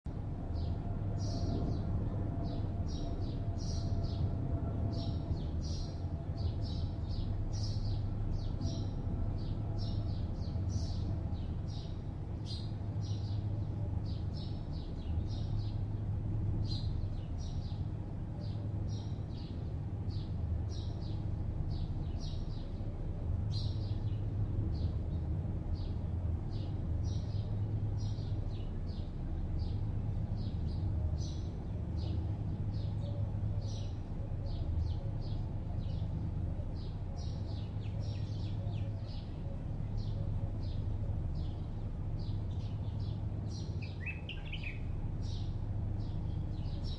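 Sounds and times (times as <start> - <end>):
distant city traffic hum: 0.1 - 46.9
small birds chirping: 4.9 - 46.9.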